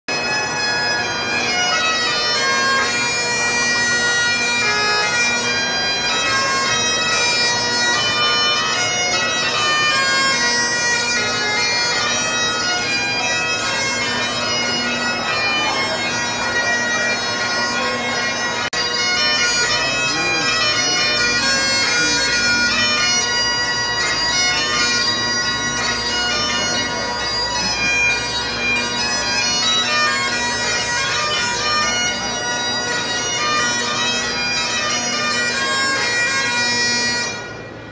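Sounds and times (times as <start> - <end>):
bagpipes playing a tune: 0.1 - 37.9.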